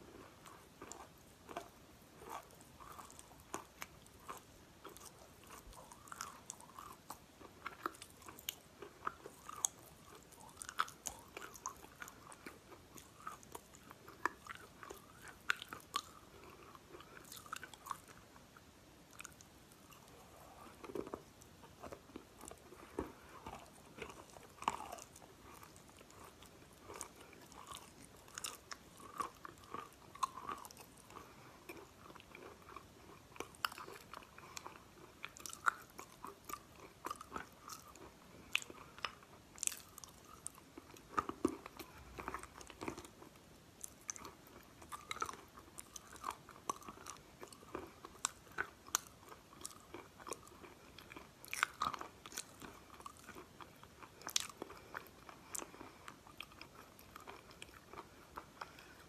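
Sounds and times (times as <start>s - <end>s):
crunching and chewing chalk: 0.0s - 59.0s.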